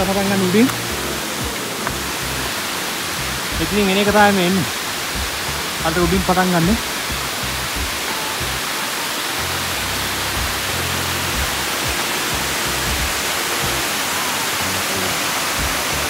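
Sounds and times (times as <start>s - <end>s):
faint background music: 0.0s - 16.0s
water rushing over weir: 0.0s - 16.0s.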